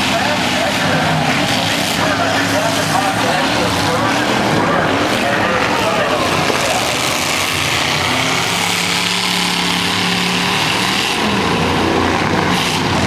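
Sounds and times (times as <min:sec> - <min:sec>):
car engines running loudly: 0:00.0 - 0:13.0.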